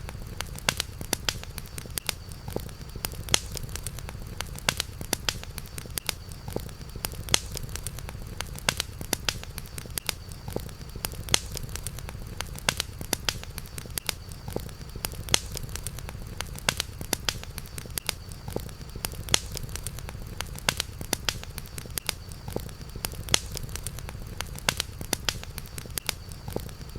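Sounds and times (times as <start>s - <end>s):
campfire pops and snaps: 0.0s - 26.9s
low fire rumble: 0.0s - 26.9s.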